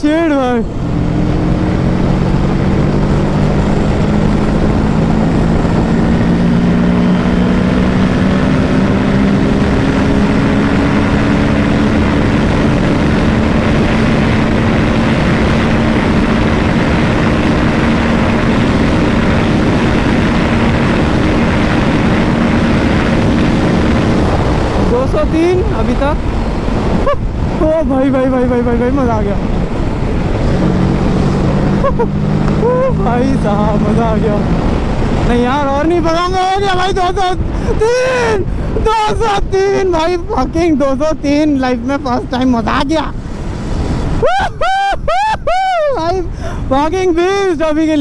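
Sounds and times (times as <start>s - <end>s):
motorcycle engine at full speed: 0.0s - 48.0s
wind rush on microphone: 0.0s - 48.0s.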